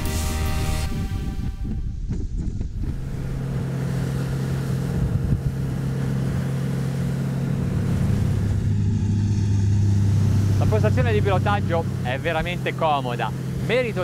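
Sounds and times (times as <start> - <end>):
outboard engine drone: 0.0 - 14.0
water and wind rushing: 0.0 - 14.0.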